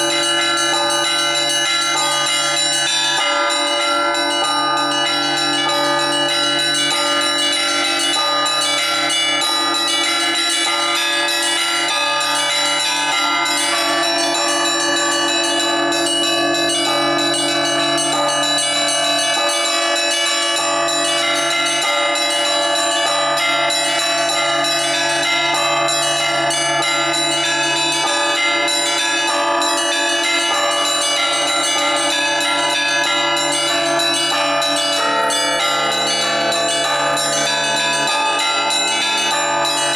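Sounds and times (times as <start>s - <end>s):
hum of large bells: 0.0s - 39.9s
small church bells striking: 0.0s - 39.9s.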